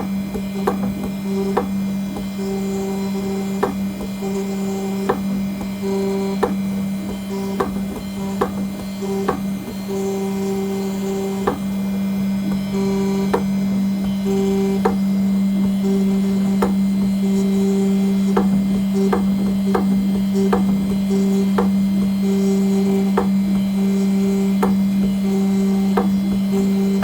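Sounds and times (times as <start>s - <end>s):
higher motor tone: 0.0s - 27.0s
spindle hum: 0.0s - 27.0s.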